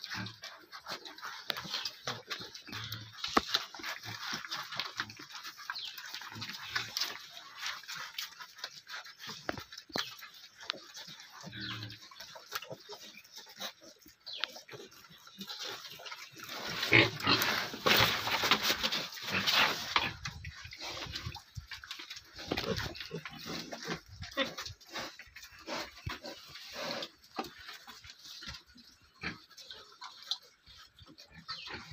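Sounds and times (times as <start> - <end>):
pig grunts and snuffling: 0.0 - 31.9.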